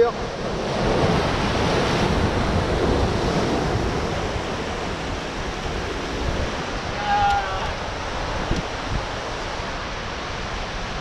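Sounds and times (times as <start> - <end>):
surf breaking over rocks: 0.0 - 11.0
wind rumbling on microphone: 0.0 - 11.0.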